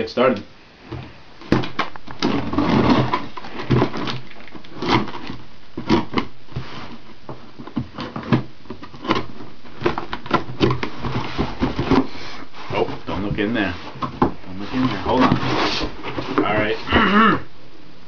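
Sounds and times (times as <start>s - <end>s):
package rustling and scraping: 1.4s - 16.9s.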